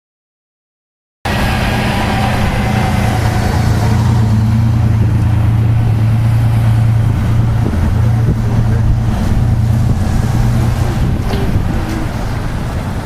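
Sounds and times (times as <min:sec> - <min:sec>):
engine humming: 0:01.3 - 0:13.0.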